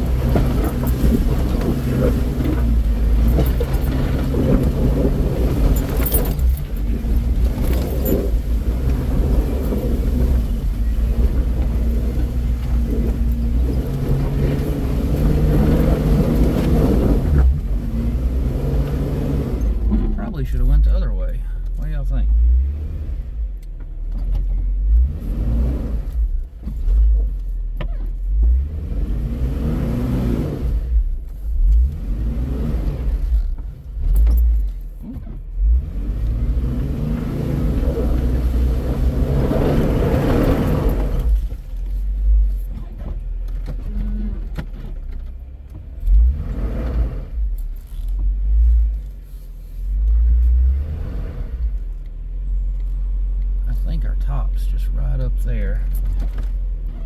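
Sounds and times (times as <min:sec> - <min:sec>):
engine revving: 0:00.0 - 0:27.2, 0:28.3 - 0:34.6, 0:35.5 - 0:41.6, 0:45.7 - 0:49.2, 0:49.8 - 0:57.0.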